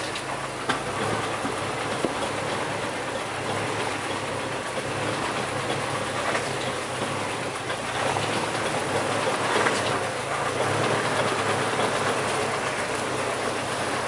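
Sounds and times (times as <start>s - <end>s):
off-road vehicle engine and road noise: 0.0s - 14.0s.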